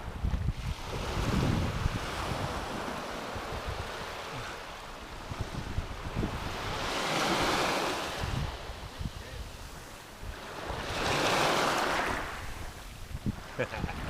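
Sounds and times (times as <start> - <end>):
ocean waves washing onto beach: 0.0 - 14.0
wind buffeting microphone: 0.0 - 14.0.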